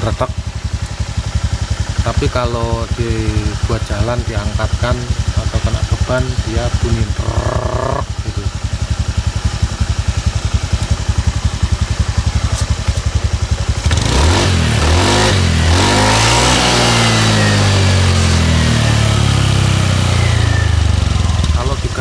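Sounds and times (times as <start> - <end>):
scooter engine idling and revving: 0.0 - 22.0.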